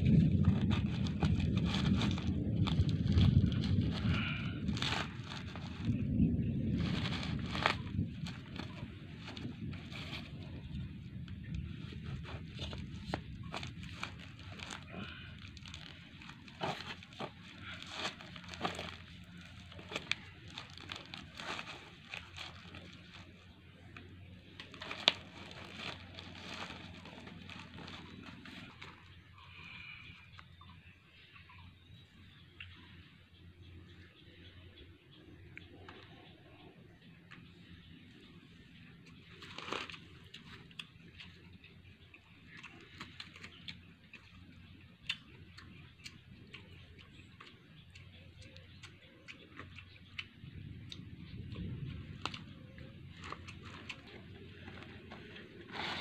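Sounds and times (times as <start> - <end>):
crackles and rustles of sack: 0.0 - 30.8, 35.4 - 47.6, 48.2 - 56.0
low steady hum: 0.0 - 56.0.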